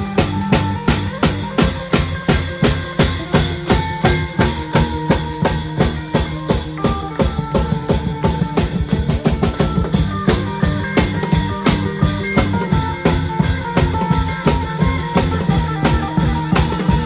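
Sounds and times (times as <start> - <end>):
long drum band rhythm: 0.0 - 17.0
melody line: 0.0 - 17.0.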